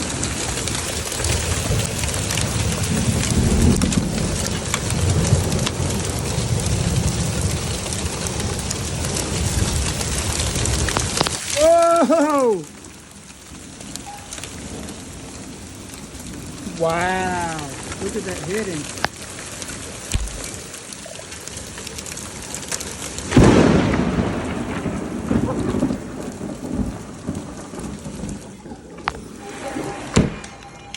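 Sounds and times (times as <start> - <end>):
hail and rain pelting down: 0.0 - 30.9
hailstones ticking: 0.0 - 30.9
thunder clap rumbling: 0.0 - 30.9.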